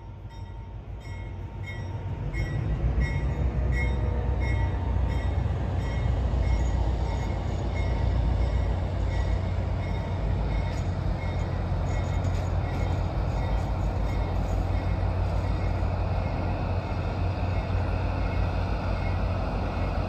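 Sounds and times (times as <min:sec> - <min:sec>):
passenger train rumbling past: 0:00.0 - 0:20.0.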